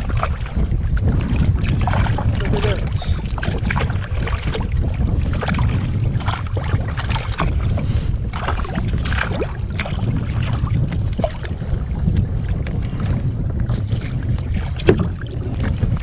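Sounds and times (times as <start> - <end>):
short knocks and splashes: 0.0 - 16.0
water lapping against kayak: 0.0 - 16.0
wind buffeting microphone: 0.0 - 16.0.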